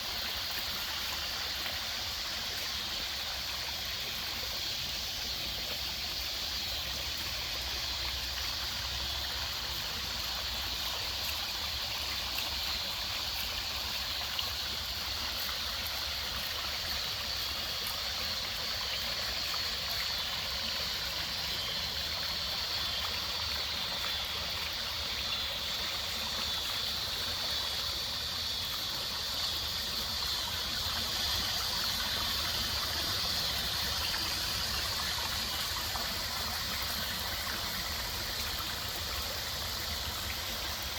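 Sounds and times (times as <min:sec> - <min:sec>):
water splashing over pond waterfall: 0:00.0 - 0:40.9.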